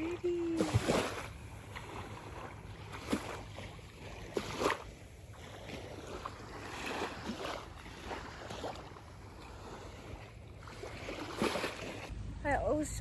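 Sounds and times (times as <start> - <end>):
small waves lapping and splashing: 0.0 - 12.2.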